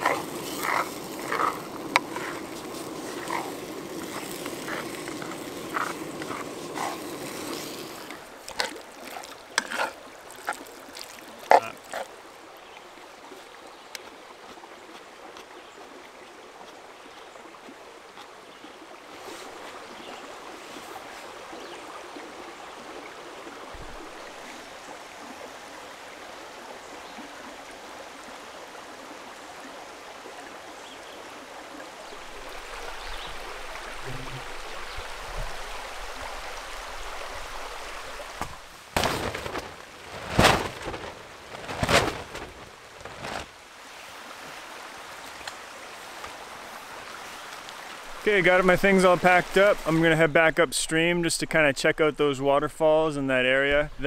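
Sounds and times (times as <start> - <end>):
stream water rushing: 0.0 - 51.1.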